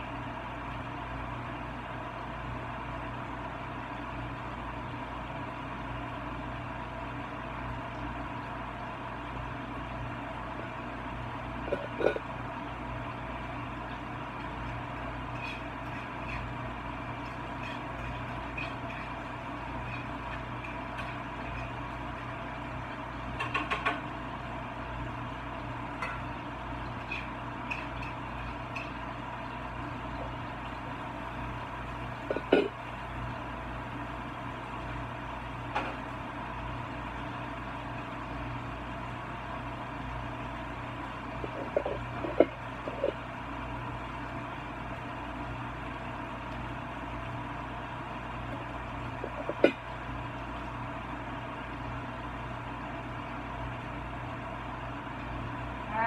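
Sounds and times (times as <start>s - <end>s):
vent fan humming: 0.0s - 56.0s.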